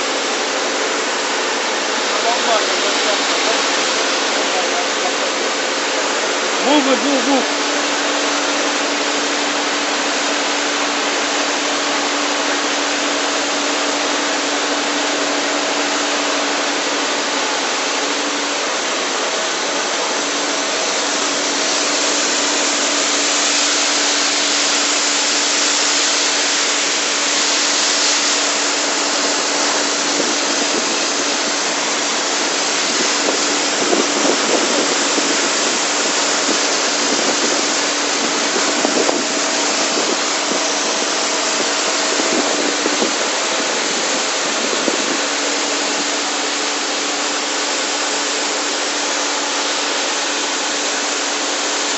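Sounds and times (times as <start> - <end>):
steady machine hum: 0.0 - 51.9
water jet splashing into pool: 0.0 - 51.9.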